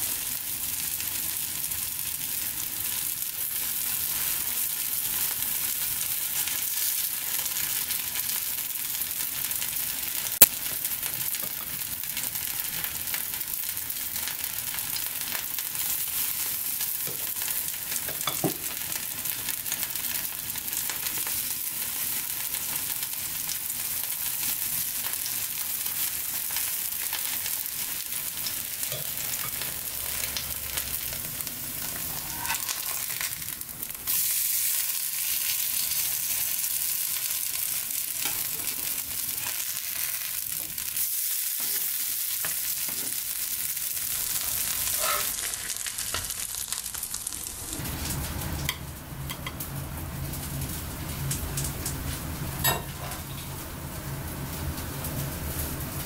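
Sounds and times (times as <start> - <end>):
batter sizzling in oil: 0.0 - 56.0.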